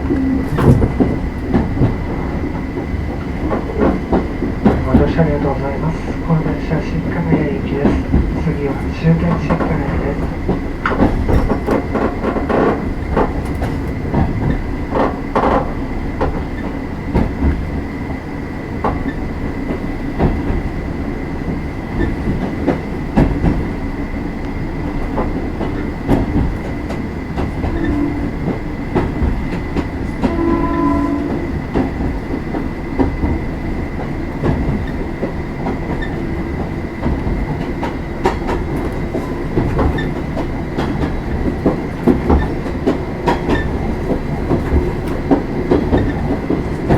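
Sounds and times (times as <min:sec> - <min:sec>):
rail joints clacking: 0:00.0 - 0:46.9
train wheels rumbling on rails: 0:00.0 - 0:46.9.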